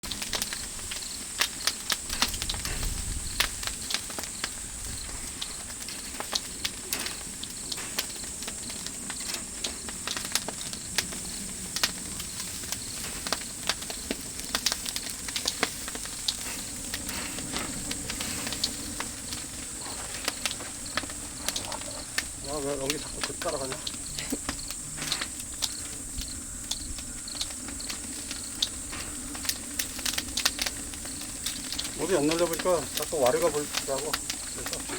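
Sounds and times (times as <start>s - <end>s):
firewood crackling and popping: 0.0s - 34.9s
insects chirring: 0.0s - 34.9s.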